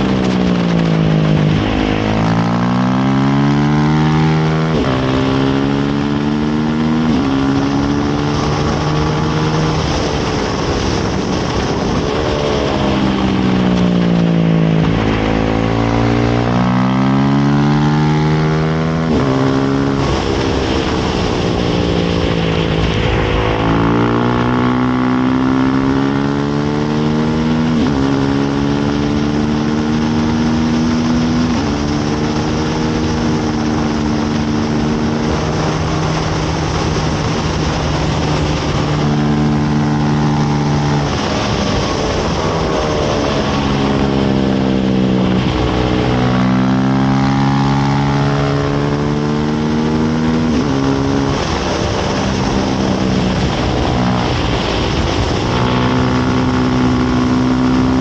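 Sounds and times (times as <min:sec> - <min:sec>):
race bike engine revving: 0:00.0 - 0:58.0
wind rush: 0:00.0 - 0:58.0.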